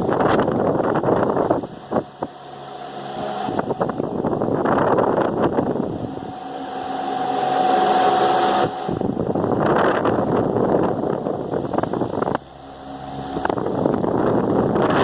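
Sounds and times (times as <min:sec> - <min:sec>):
fan air rushing: 0:00.0 - 0:15.0
fan motor hum: 0:00.0 - 0:15.0
thin whine: 0:00.0 - 0:15.0.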